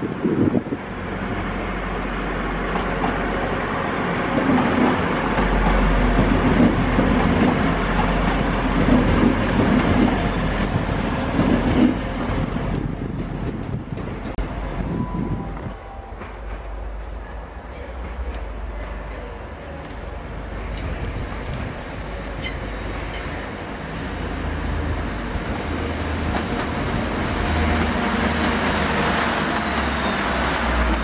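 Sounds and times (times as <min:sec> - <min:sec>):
train passing engine and wheels: 0:00.0 - 0:31.0.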